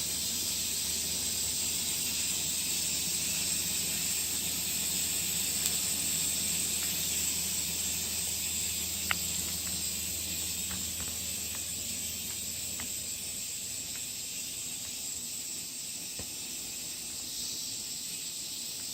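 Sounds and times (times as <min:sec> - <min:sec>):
aerosol spray hissing: 0:00.0 - 0:18.9.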